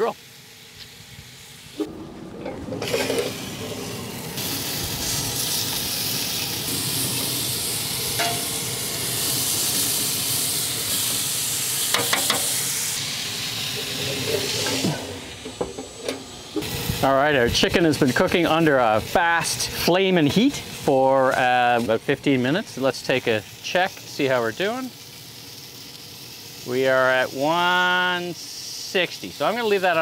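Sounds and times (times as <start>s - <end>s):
chicken sizzling on grill: 0.0s - 30.0s.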